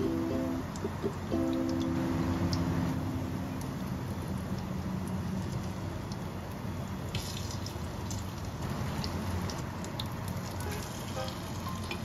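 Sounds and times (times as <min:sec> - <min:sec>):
frying sizzle with pops: 0:00.0 - 0:12.0
low steady hum: 0:00.0 - 0:12.0.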